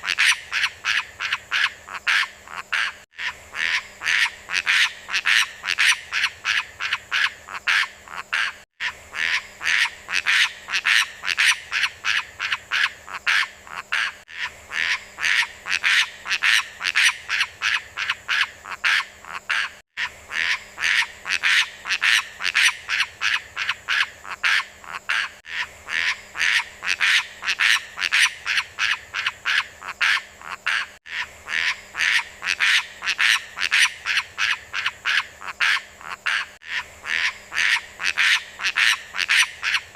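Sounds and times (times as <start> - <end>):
bird harsh repeated calls: 0.0 - 39.9.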